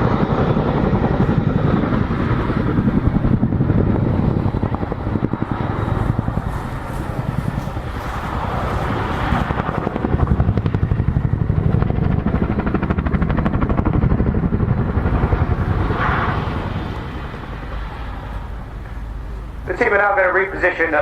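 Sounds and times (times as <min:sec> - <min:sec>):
helicopter rotor blade slap: 0:00.0 - 0:21.0.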